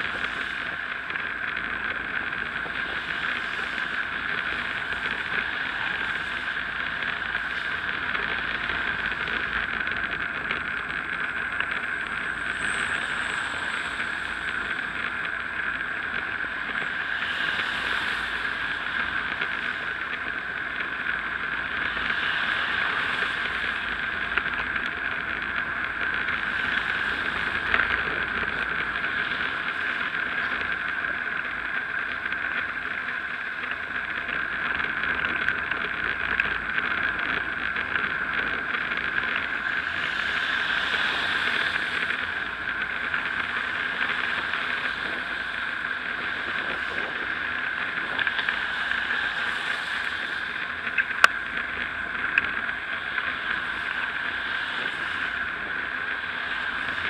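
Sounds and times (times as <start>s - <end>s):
car passing with hiss: 0.0s - 9.3s, 11.7s - 24.7s, 25.3s - 31.0s, 38.9s - 57.0s
bicycle tyres on wet road: 0.0s - 57.0s.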